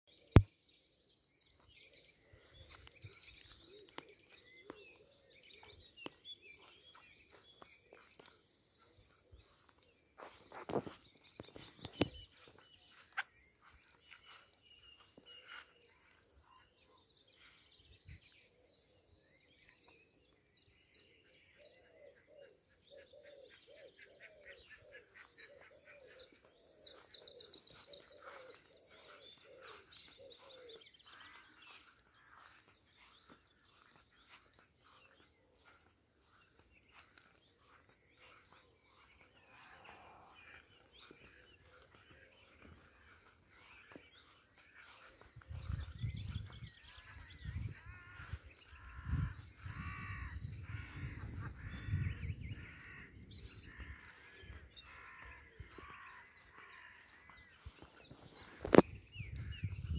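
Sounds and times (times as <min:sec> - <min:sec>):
birds singing: 0:00.1 - 0:59.9
low bird calls: 0:01.5 - 0:59.9.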